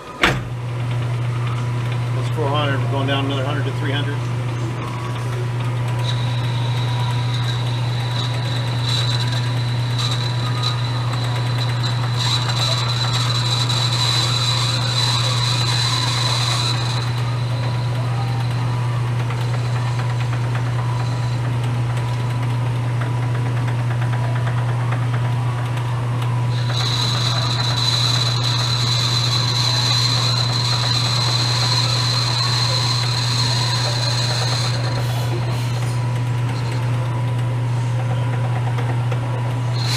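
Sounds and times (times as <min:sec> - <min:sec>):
high whine of tool cutting: 0:00.0 - 0:39.9
metal lathe running: 0:00.0 - 0:39.9.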